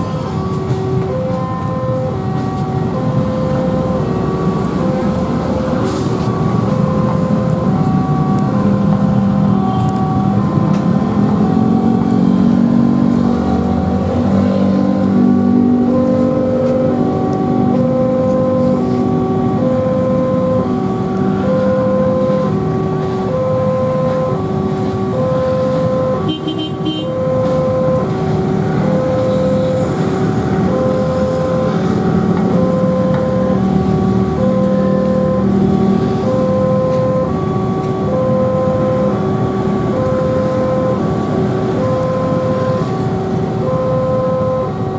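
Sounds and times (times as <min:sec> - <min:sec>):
level crossing alarm two-tone: 0:00.0 - 0:44.9
road traffic: 0:00.0 - 0:44.9
vehicle engines running: 0:00.0 - 0:44.9.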